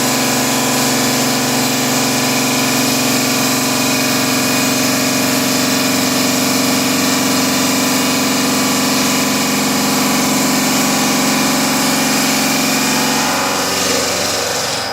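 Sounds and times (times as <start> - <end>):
stone-cutting machine humming: 0.0 - 14.9.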